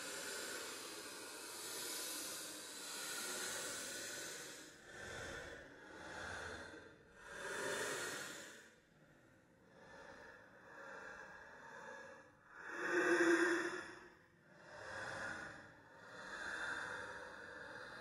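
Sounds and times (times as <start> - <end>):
breathy ghostly sighs: 0.0 - 18.0.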